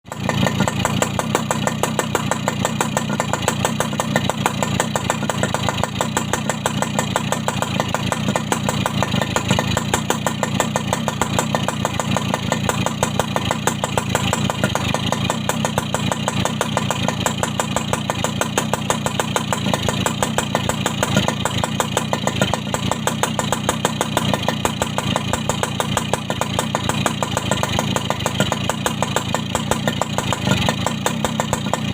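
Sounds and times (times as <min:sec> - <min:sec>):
motorcycle idling: 0:00.0 - 0:31.9.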